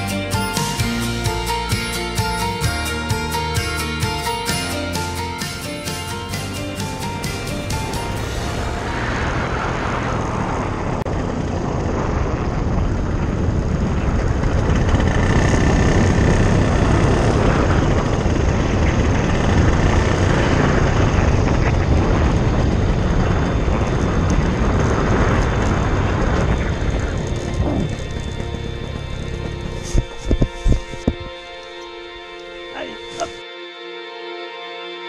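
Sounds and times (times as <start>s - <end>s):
paramotor engine and propeller: 4.3s - 32.8s.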